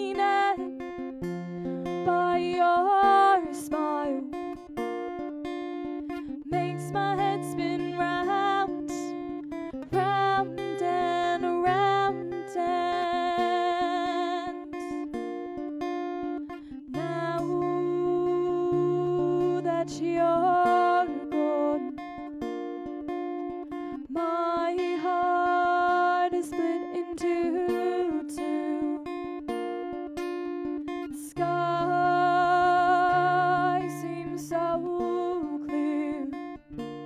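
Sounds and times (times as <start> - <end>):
woman singing wordless line: 0.0 - 4.7, 6.2 - 15.3, 16.7 - 22.2, 24.0 - 29.4, 31.1 - 37.0
acoustic guitar: 0.0 - 37.0.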